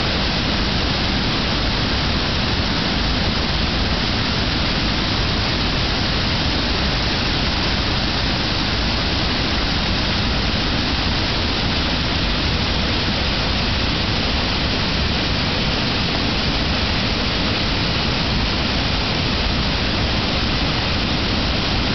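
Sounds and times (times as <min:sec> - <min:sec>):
waterfall roaring: 0:00.0 - 0:21.9.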